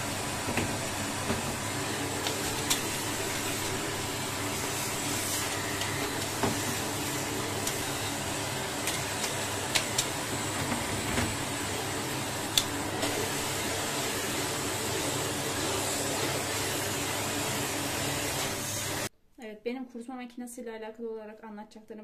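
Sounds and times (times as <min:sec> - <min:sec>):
vacuum cleaner running: 0:00.0 - 0:19.1.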